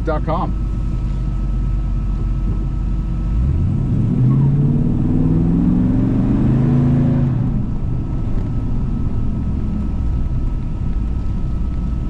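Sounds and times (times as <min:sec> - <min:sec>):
car engine under throttle: 0:00.0 - 0:12.0.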